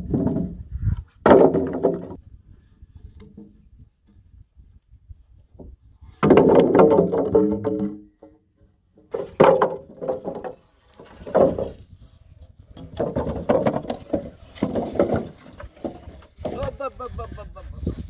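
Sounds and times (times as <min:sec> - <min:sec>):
wooden poles knocking together: 0:00.0 - 0:02.3, 0:03.0 - 0:04.4, 0:05.4 - 0:17.1.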